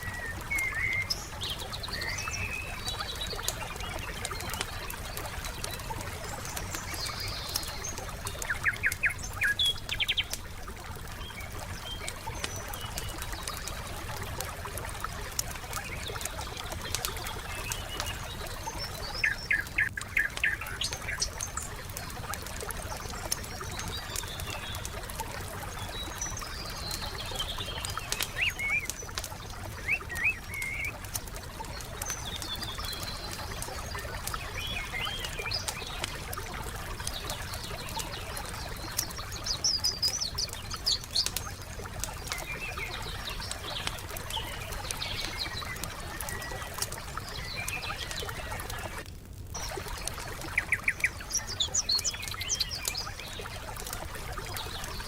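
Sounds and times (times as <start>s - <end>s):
forest birds calling: 0.0s - 10.5s, 11.1s - 49.0s, 49.6s - 55.0s
wood fire crackling and popping: 0.0s - 55.0s.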